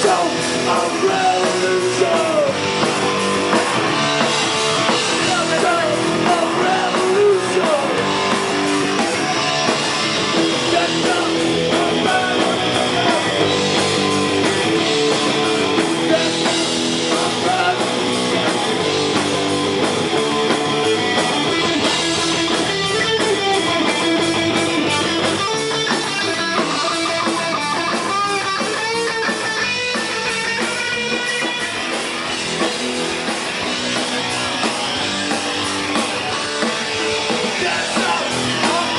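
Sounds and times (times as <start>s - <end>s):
electric guitar: 0.0s - 38.9s
rock band playing live: 0.0s - 38.9s.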